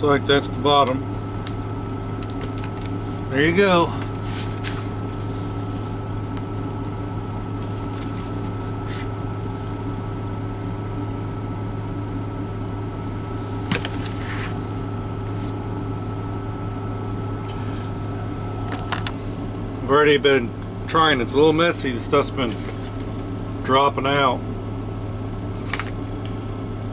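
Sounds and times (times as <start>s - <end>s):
truck cab mechanical hum: 0.0s - 26.9s.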